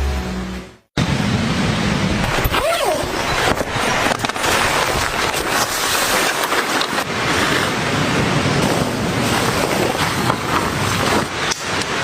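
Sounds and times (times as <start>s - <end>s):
heavy pouring rain: 1.0s - 12.0s.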